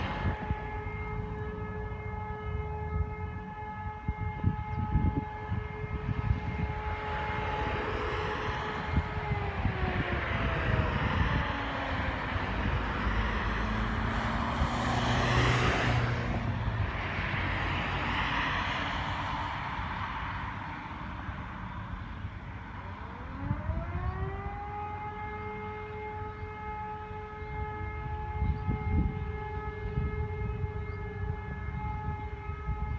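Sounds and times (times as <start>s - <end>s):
civil defence siren winding down: 0.0s - 32.9s.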